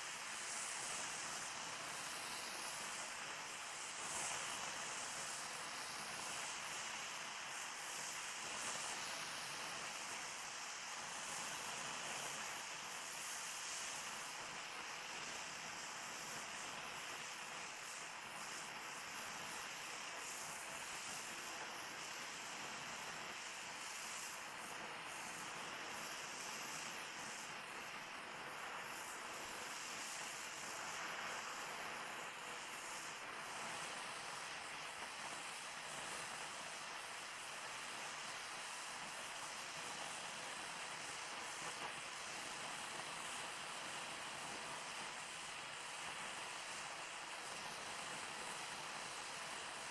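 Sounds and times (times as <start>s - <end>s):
welding torch flame hissing: 0.0s - 49.9s.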